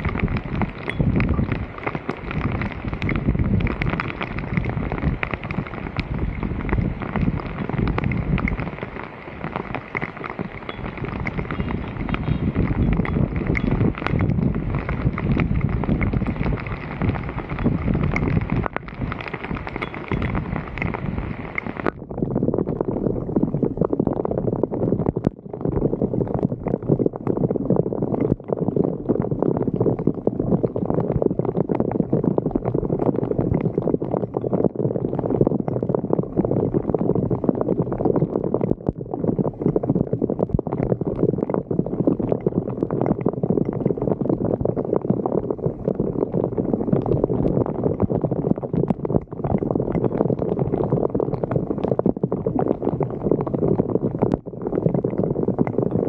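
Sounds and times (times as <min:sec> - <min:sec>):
water gurgling down drain: 0:00.0 - 0:56.0.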